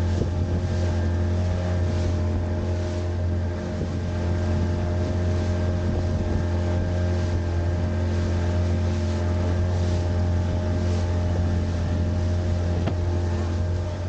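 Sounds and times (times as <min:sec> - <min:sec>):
outboard motor droning: 0:00.0 - 0:14.0
water rushing past: 0:00.0 - 0:14.0.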